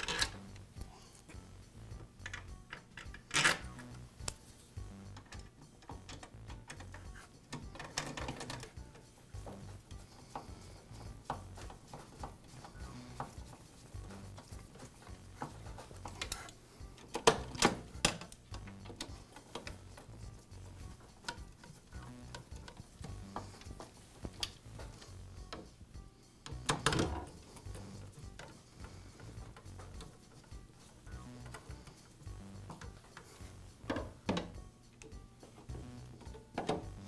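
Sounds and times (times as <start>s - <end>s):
screwdriver and screws clicking: 0.0s - 0.9s, 5.1s - 9.7s, 10.3s - 25.8s, 26.4s - 35.2s.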